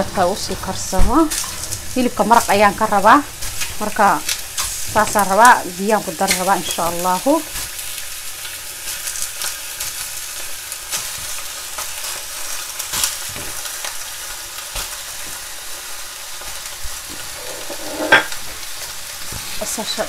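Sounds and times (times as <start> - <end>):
meat sizzling in saucepan: 0.0 - 20.0.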